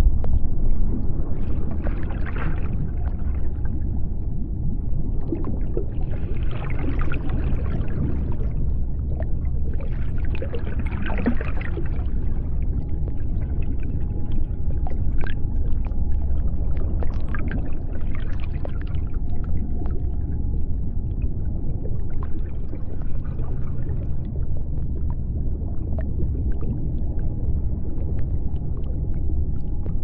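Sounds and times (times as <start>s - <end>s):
deep underwater rumble: 0.0s - 30.0s.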